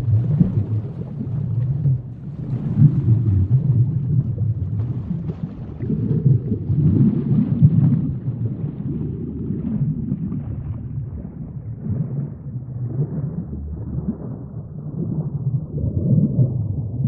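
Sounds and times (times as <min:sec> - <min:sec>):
underwater rumble and gurgle: 0:00.0 - 0:17.0.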